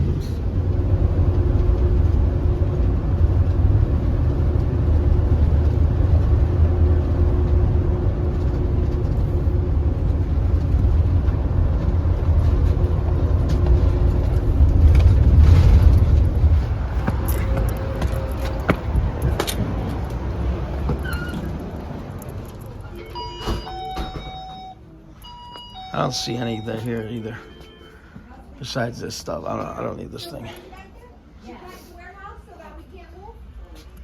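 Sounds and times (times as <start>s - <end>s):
vehicle engine and road rumble: 0.0s - 28.6s.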